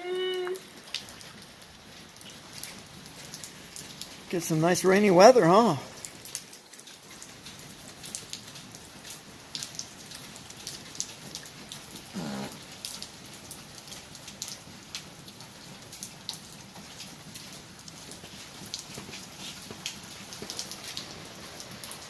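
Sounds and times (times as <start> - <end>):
heavy rain falling: 0.0 - 22.0
raindrops tapping close by: 0.0 - 22.0.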